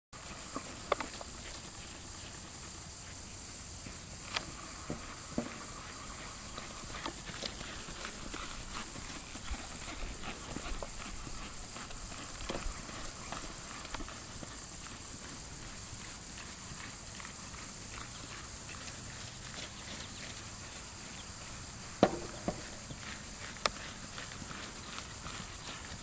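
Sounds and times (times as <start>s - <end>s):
horse hoofbeats on grass and dirt: 0.2s - 26.0s.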